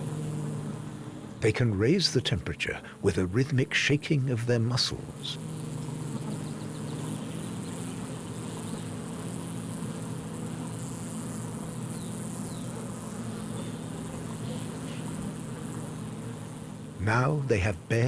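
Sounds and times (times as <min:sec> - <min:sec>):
bees humming in low drone: 0:00.0 - 0:18.0.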